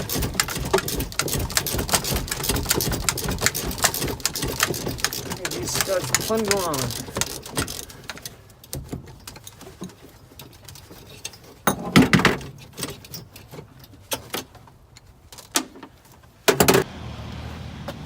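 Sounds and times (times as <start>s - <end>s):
hand tools clicking on metal: 0.0s - 15.8s
metal clanks: 0.0s - 15.9s.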